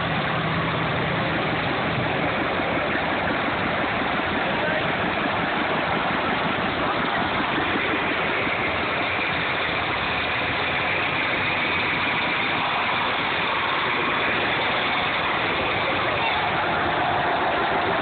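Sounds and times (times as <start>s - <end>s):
tractor engines passing: 0.0s - 18.0s.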